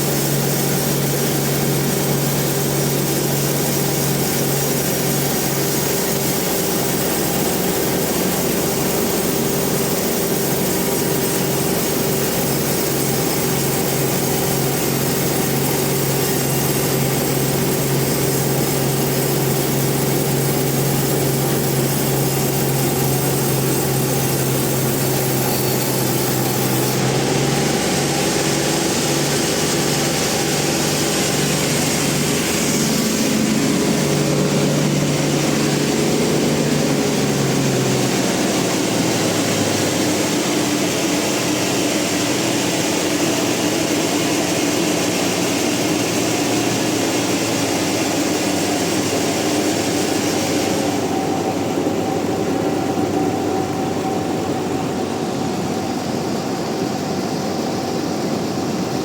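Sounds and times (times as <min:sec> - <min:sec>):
band sawmill mechanical drone: 0:00.0 - 0:59.0.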